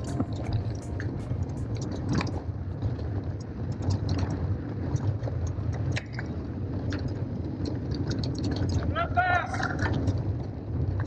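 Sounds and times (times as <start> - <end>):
gravel and bike rattling: 0.0 - 11.0
wind and tyres rumbling: 0.0 - 11.0.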